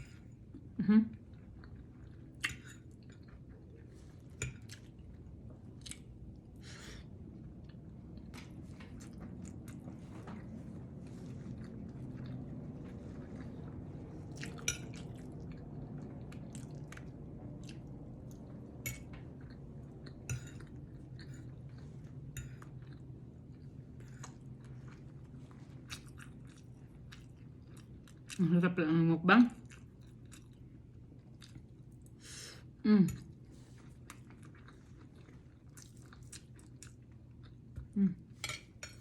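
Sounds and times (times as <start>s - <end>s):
steady low hum: 0.0s - 39.0s
person chewing food: 1.2s - 28.4s, 29.6s - 32.2s, 33.2s - 39.0s.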